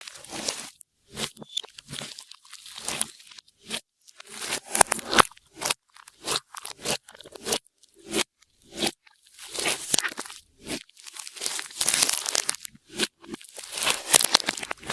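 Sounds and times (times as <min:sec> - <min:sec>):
slime crackling and crunching: 0:00.0 - 0:14.9.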